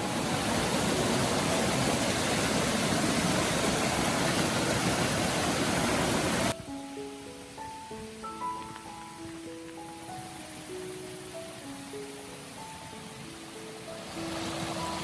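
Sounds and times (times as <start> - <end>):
rushing water with deep rumble: 0.0 - 15.0.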